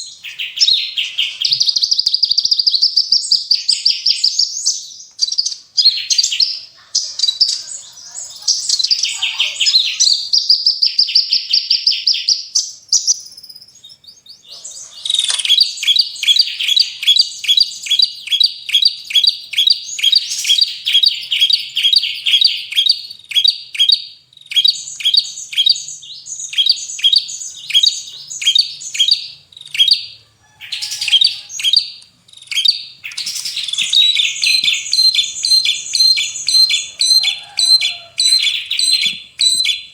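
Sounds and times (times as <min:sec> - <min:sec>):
sharp repeated bird chirps: 0:00.0 - 0:39.9
songbirds rapid trills: 0:00.0 - 0:39.9.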